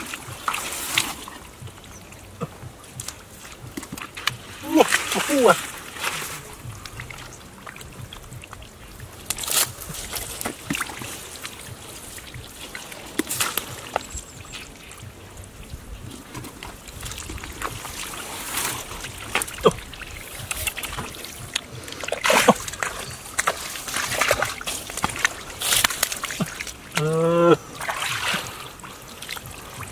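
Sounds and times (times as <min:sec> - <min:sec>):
splashing muddy water: 0:00.0 - 0:29.9
water trickling: 0:00.0 - 0:29.9.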